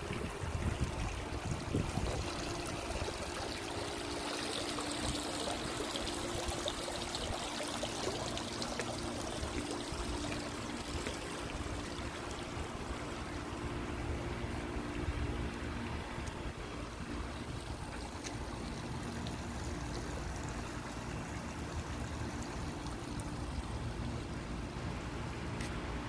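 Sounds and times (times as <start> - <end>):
water spilling over a wall: 0.0 - 13.6, 17.0 - 25.2
steady low hum: 0.0 - 26.0.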